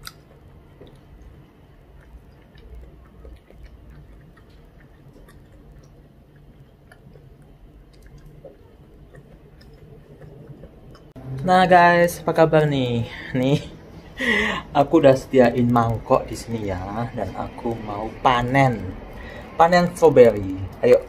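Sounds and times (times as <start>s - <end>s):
quiet chewing: 0.0s - 11.2s, 14.2s - 21.0s.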